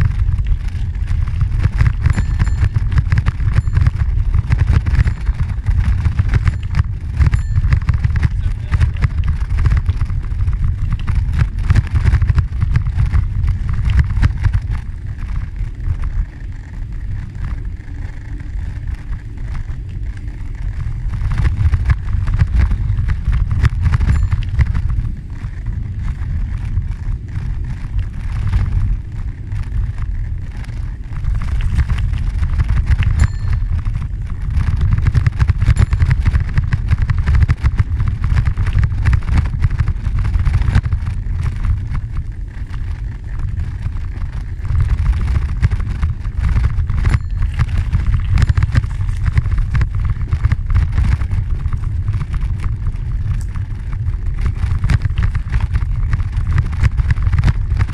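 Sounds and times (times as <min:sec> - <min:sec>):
bicycle rattling on dirt trail: 0:00.0 - 0:57.9
wind buffeting microphone: 0:00.0 - 0:57.9.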